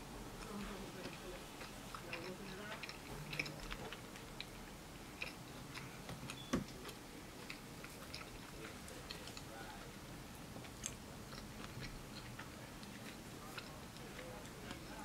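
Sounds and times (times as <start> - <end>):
wet chewing mouth clicks: 0.4 - 6.5, 7.4 - 9.6, 10.6 - 15.0.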